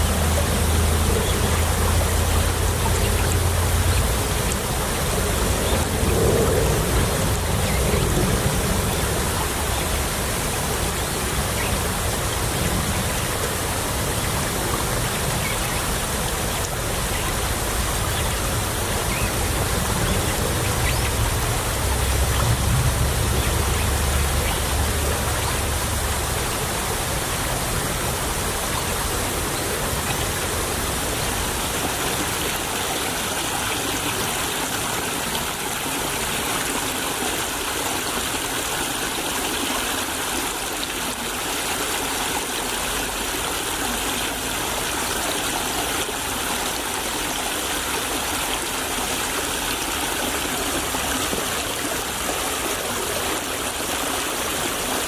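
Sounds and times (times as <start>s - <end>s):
stream trickling: 0.0s - 55.0s.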